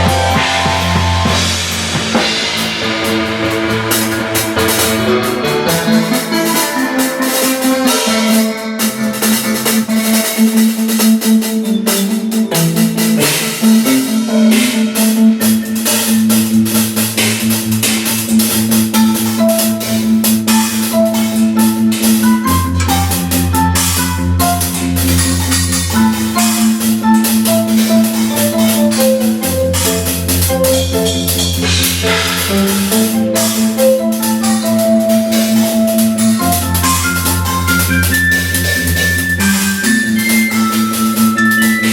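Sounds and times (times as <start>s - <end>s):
bass line: 0.0s - 41.9s
drum kit playing: 0.0s - 41.9s
mallet-like melody: 0.0s - 41.9s
sustained accompaniment notes: 0.0s - 41.9s.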